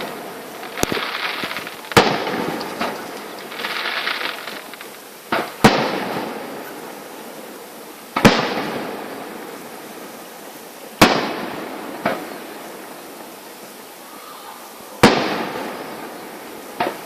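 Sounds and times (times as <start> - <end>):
fireworks exploding: 0.0 - 13.7, 14.3 - 17.0
fireworks crackling: 0.0 - 17.0.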